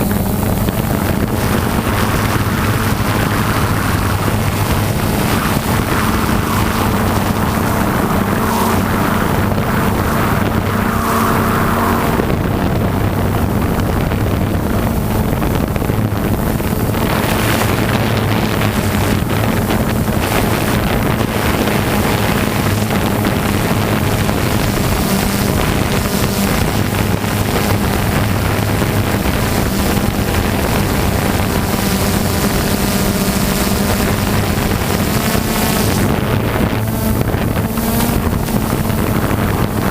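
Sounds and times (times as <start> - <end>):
engine humming: 0.0 - 39.9
wind buffeting microphone: 0.0 - 39.9.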